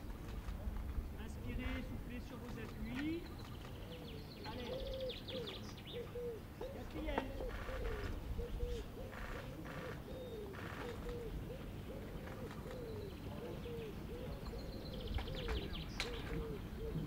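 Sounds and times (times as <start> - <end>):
low repeating bird call: 2.7 - 17.0.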